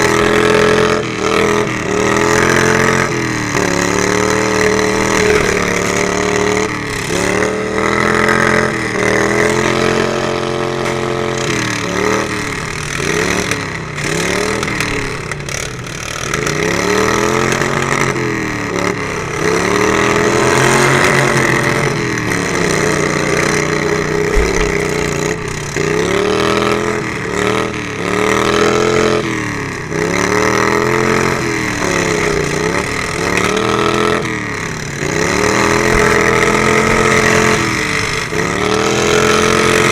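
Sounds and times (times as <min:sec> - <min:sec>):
lawn mower engine revving: 0:00.0 - 0:39.9.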